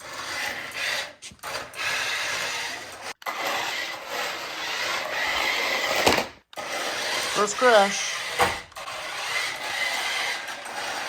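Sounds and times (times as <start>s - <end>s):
tires scrubbing on floor: 0.0s - 11.0s.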